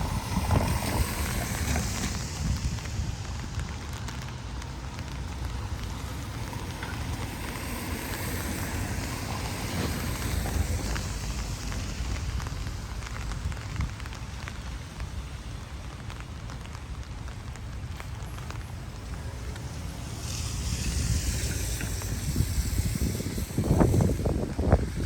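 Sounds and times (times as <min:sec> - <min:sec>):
rain: 0:00.0 - 0:25.0
wind rumbling on microphone: 0:00.0 - 0:25.0.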